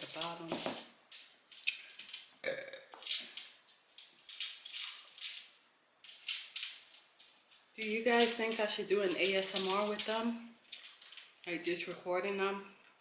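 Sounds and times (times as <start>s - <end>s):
turtles scratching and clicking: 0.0s - 11.6s.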